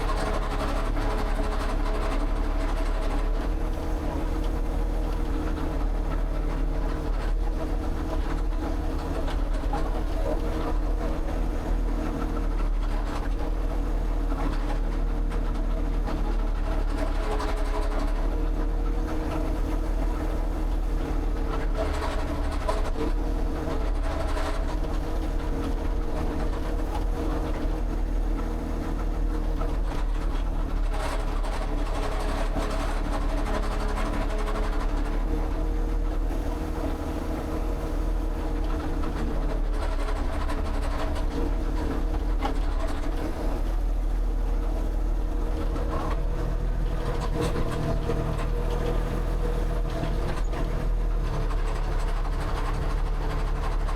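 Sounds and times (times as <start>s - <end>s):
engine droning: 0.0s - 53.9s.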